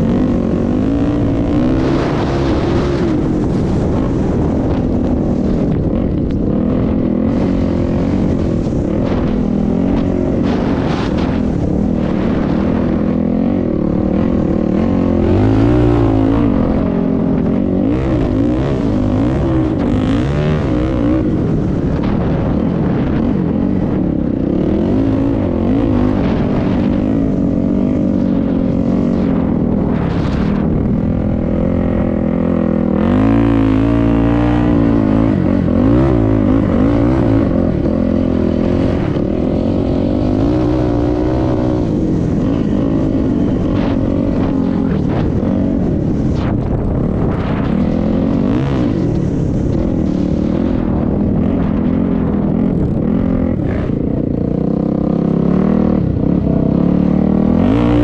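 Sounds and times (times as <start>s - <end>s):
constant rushing noise: 0.0s - 58.0s
vehicle engine running: 0.0s - 58.0s.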